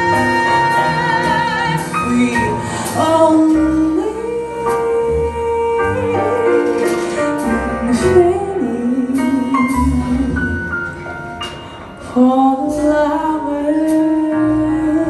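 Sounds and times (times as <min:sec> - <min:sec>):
bass: 0:00.0 - 0:15.0
piano: 0:00.0 - 0:15.0
woman singing jazz ballad: 0:00.0 - 0:15.0.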